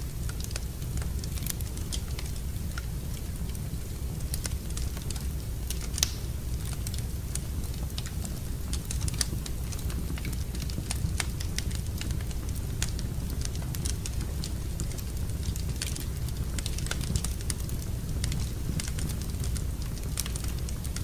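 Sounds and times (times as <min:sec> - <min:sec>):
fire low rumble: 0:00.0 - 0:21.0
wood fire crackling and popping: 0:00.0 - 0:21.0.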